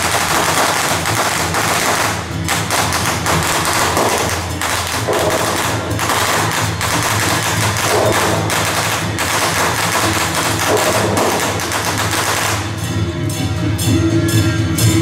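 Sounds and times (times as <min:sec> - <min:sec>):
firecrackers going off: 0:00.0 - 0:13.0.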